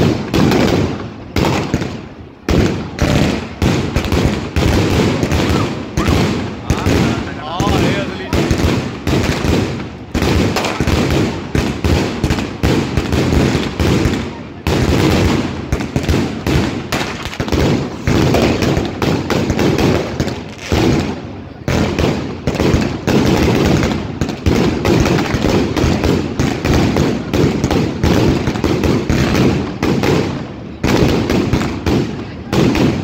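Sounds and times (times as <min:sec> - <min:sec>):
fireworks bursts and booms: 0:00.0 - 0:33.0
fireworks crackle: 0:00.0 - 0:33.0.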